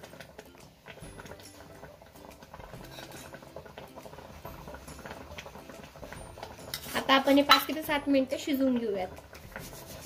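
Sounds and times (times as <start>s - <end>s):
thick food crackling and bubbling: 0.0s - 10.0s.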